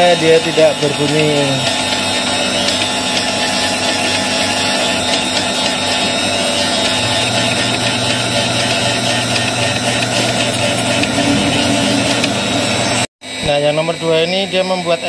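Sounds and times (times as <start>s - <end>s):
sharpener motor running: 0.0s - 13.1s
grinding wheel cutting metal: 0.0s - 13.6s.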